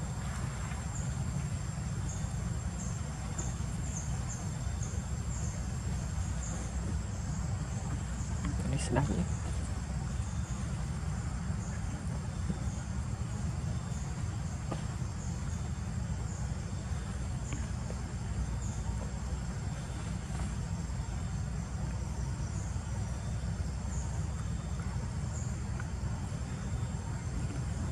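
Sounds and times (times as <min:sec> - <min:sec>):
insects chirping: 0:00.0 - 0:27.9
steady low rumble: 0:00.0 - 0:27.9.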